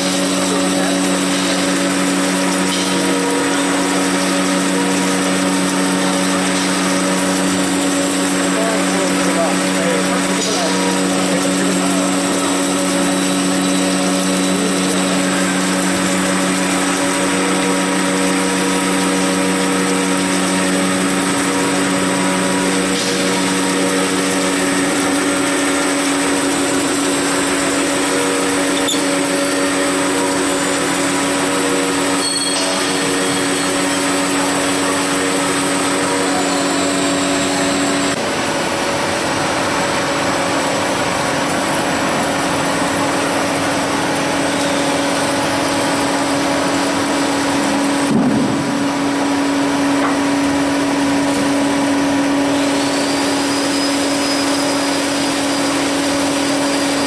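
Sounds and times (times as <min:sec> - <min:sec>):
drilling machine whine: 0:00.0 - 0:57.0.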